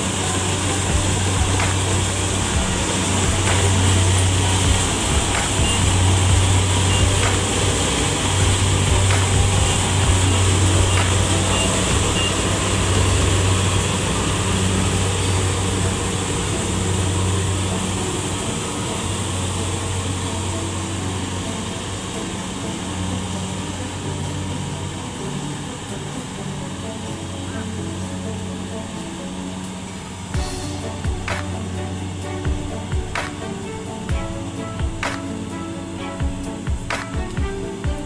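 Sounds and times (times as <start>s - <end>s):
low engine drone: 0.0s - 38.0s
mechanical rush of harvester: 0.0s - 38.0s.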